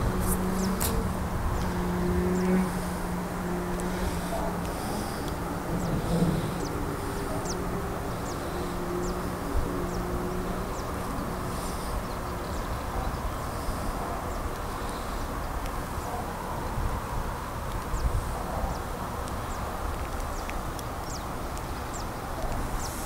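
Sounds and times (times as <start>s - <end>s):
low engine hum: 0.0s - 23.0s
road traffic drone: 0.0s - 23.0s.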